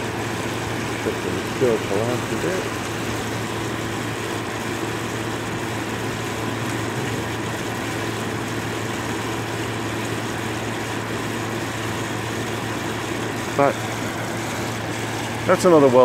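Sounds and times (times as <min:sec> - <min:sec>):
air conditioner humming: 0:00.0 - 0:16.0
fan noise: 0:00.0 - 0:16.0.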